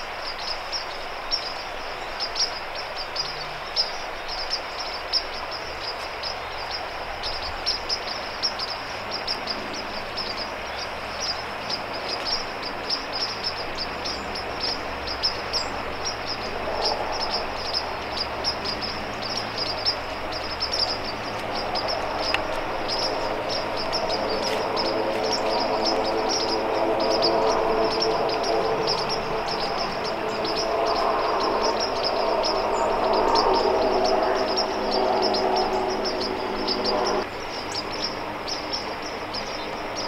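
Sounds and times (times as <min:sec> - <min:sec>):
constant hiss: 0:00.0 - 0:40.0.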